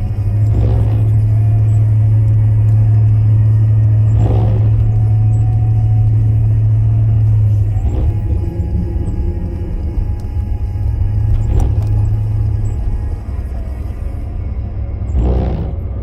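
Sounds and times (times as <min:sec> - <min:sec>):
car interior driving rumble: 0:00.0 - 0:16.0.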